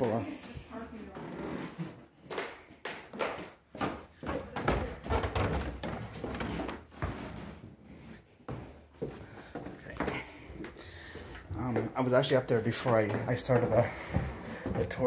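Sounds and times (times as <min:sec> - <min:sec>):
footsteps on wooden stairs: 0:00.0 - 0:15.0.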